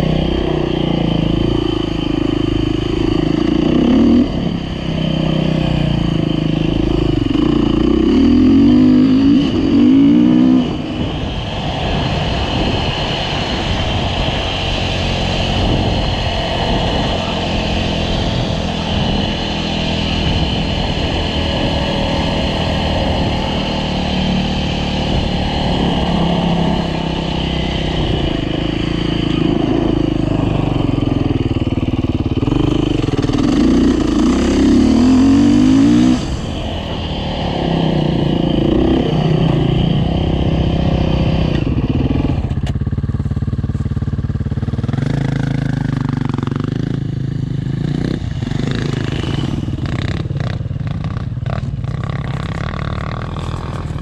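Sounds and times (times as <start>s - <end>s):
dirt bike engine revving: 0.0s - 42.6s, 44.1s - 54.0s.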